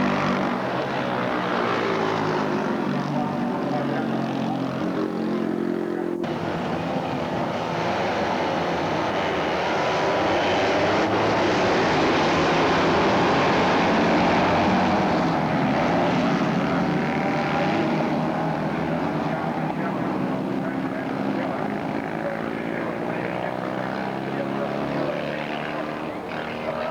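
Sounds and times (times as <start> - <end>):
racing motorcycle engines revving: 0.0 - 26.9.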